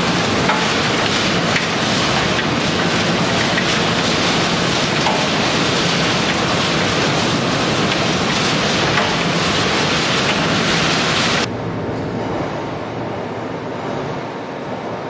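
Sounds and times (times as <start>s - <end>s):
industrial machinery rushing noise: 0.0s - 15.0s.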